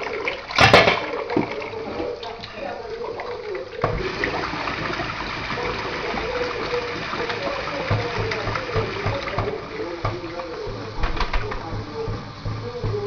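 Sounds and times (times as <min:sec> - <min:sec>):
tap water splashing into metal sink: 0:00.0 - 0:13.0.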